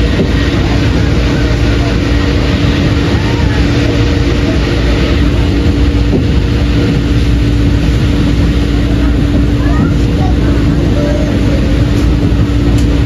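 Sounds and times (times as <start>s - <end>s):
train coach rumble: 0.0s - 13.0s.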